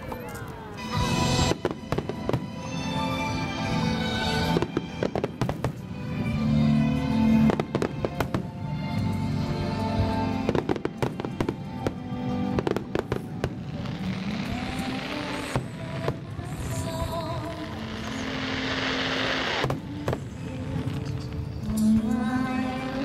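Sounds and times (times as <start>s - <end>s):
fireworks bursting and crackling: 0.0s - 23.0s
music playing: 0.0s - 23.0s.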